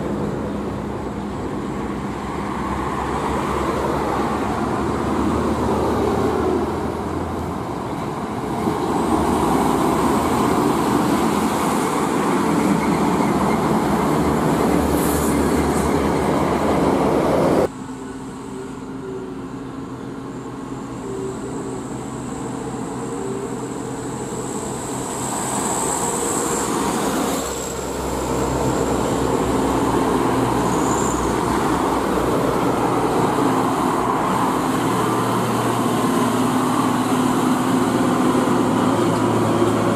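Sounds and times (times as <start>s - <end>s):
heavy diesel trucks passing: 0.0s - 39.9s
traffic noise: 0.0s - 39.9s.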